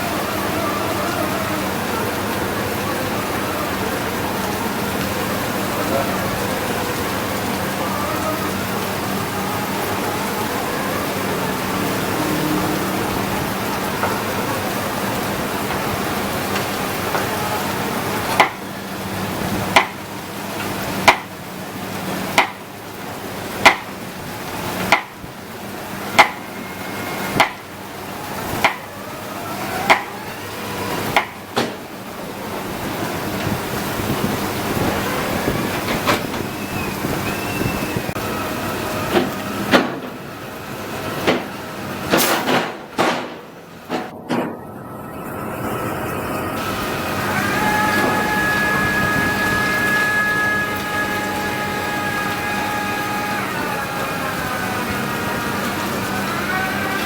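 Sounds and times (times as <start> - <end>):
piling rig engine hum: 0.0 - 57.0.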